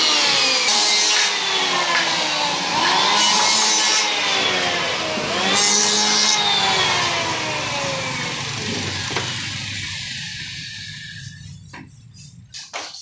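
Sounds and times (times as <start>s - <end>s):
electric planer shaving wood: 0.0s - 12.6s
motor whine spinning down: 1.3s - 12.5s.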